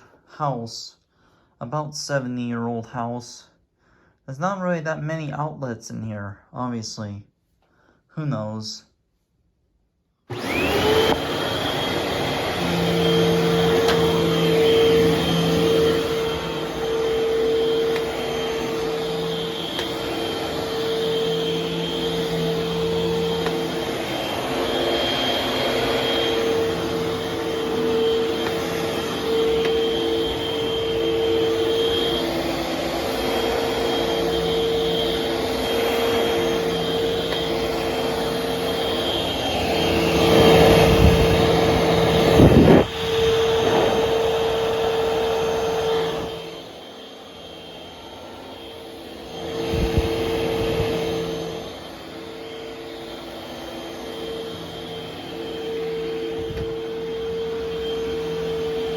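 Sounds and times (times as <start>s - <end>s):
vacuum cleaner motor whine: 10.3s - 58.9s.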